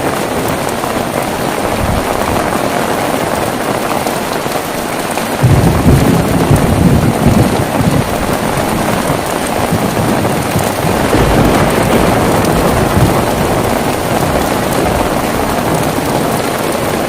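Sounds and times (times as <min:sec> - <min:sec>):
heavy rain: 0:00.0 - 0:17.0
low rolling thunder: 0:00.4 - 0:17.0.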